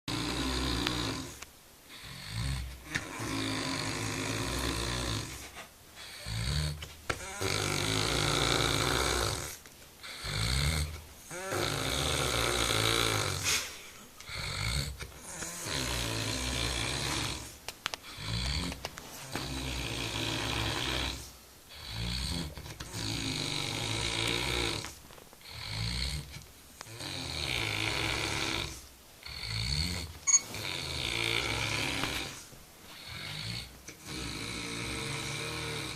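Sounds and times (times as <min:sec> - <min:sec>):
man snoring heavily: 0:00.1 - 0:01.4, 0:02.0 - 0:05.4, 0:06.0 - 0:35.9.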